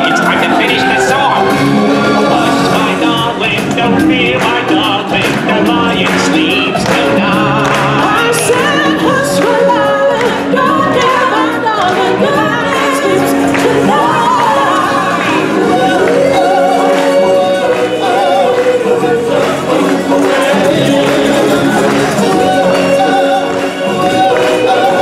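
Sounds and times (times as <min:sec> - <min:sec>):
instrumental accompaniment: 0:00.0 - 0:25.0
voices singing: 0:00.0 - 0:25.0.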